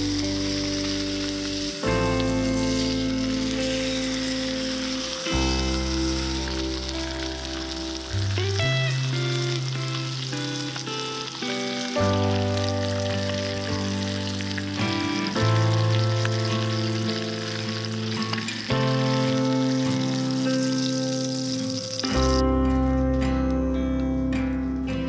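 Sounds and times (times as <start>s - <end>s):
steak sizzling in a skillet: 0.0s - 22.5s
background music of sustained chords: 0.0s - 25.0s.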